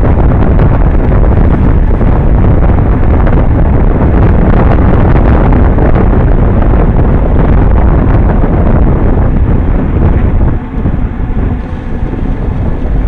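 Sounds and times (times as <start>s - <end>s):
road and tyre rumble: 0.0s - 13.0s
wind buffeting microphone: 0.0s - 13.0s.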